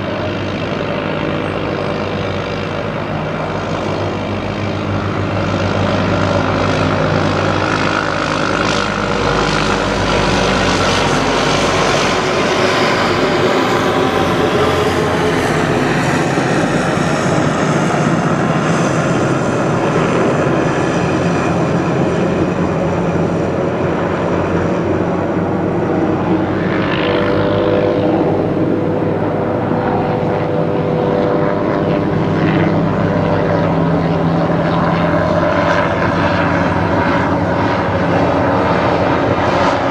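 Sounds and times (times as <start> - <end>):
helicopters passing overhead: 0.0 - 39.9.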